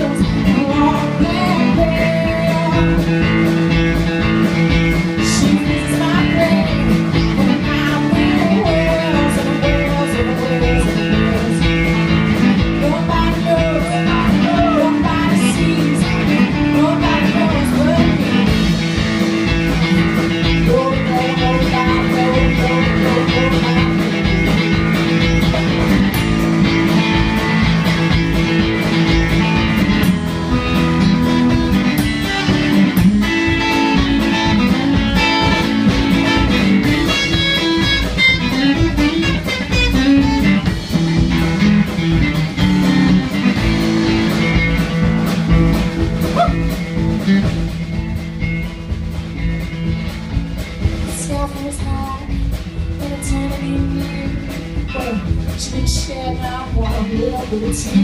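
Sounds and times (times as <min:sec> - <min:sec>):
drums: 0:00.0 - 0:58.0
electric guitar lead: 0:00.0 - 0:58.0.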